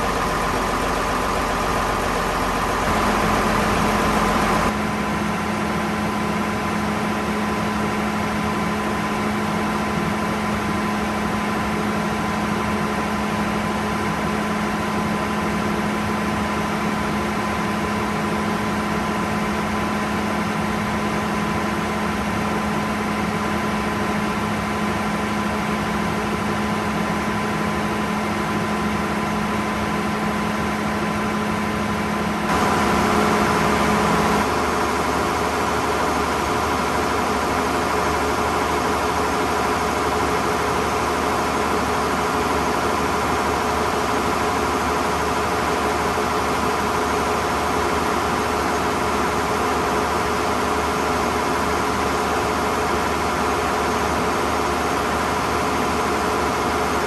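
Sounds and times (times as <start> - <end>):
diesel generator running: 0.0 - 57.0.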